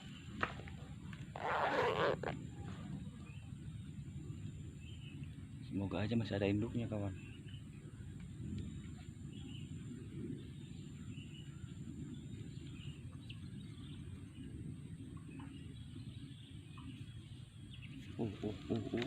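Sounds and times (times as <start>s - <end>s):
faint bird chirps: 1.3s - 19.0s.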